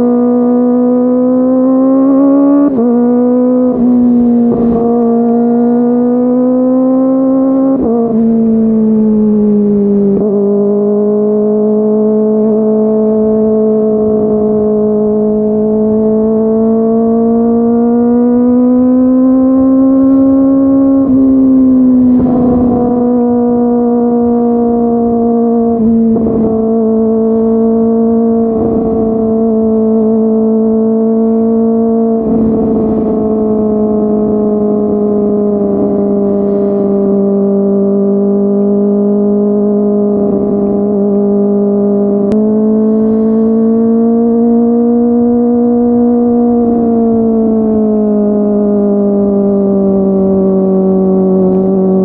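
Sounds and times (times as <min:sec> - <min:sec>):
motorcycle engine high-revving drone: 0:00.0 - 0:52.0.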